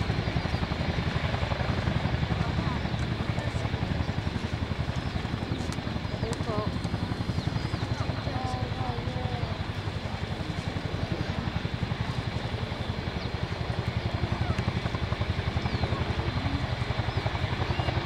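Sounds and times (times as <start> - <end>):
helicopter rotor blades beating: 0.0 - 18.0.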